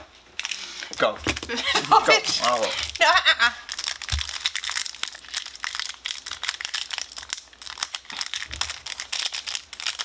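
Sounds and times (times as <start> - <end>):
foil wrapper crinkling: 0.4 - 10.0.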